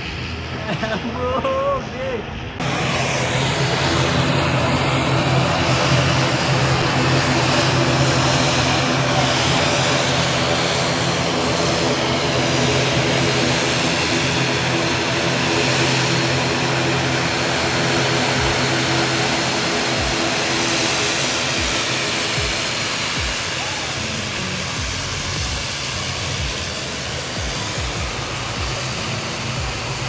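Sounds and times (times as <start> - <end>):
propeller airliner engines droning: 0.0 - 30.0.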